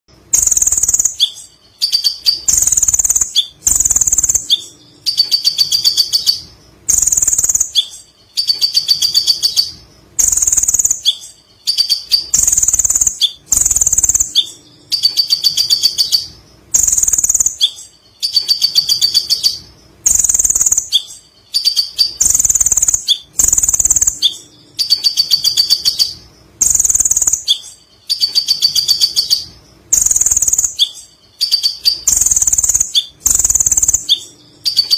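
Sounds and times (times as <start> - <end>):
bird chattering song: 0.3 - 34.9.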